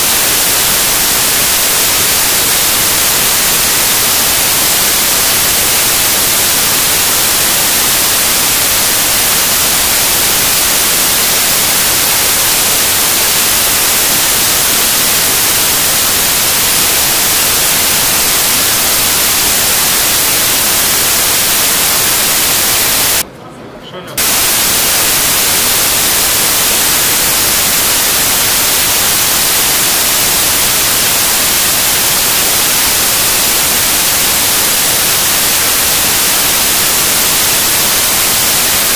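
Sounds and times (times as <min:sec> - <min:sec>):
loud static hiss: 0:00.0 - 0:23.2, 0:24.2 - 0:38.9.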